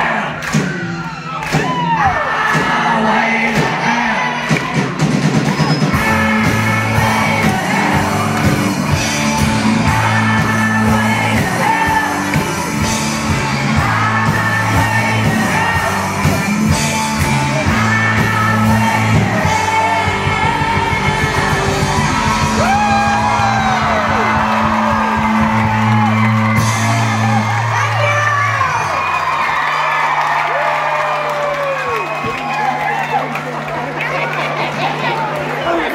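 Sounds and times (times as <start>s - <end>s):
live rock band with singing: 0.0s - 29.1s
crowd yelling: 0.0s - 35.9s.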